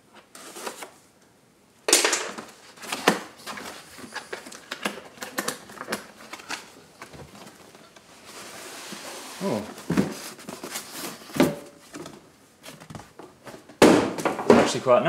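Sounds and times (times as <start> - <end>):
wrapping rustling and scraping: 0.1 - 1.0, 2.3 - 13.7.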